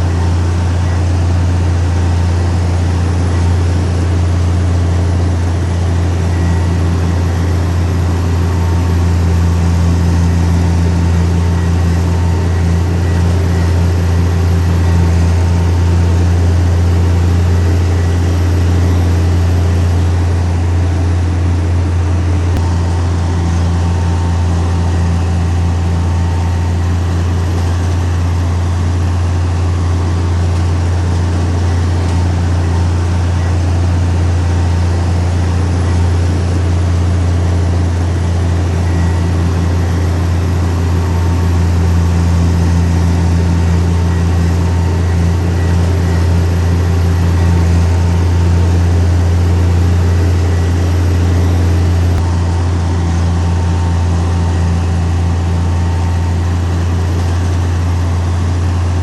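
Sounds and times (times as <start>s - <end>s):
heavy diesel engine drone: 0.0s - 59.0s.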